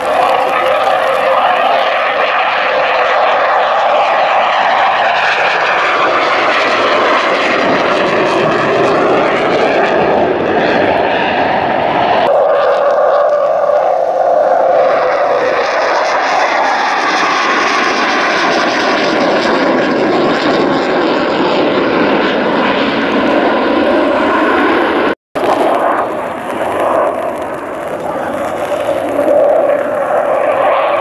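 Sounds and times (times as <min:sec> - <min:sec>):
jet engine roaring: 0:00.0 - 0:31.0.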